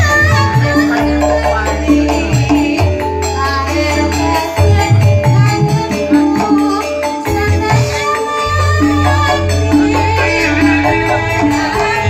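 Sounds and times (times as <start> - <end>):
live band music through pa: 0.0 - 12.0
person singing into a microphone: 0.0 - 12.0.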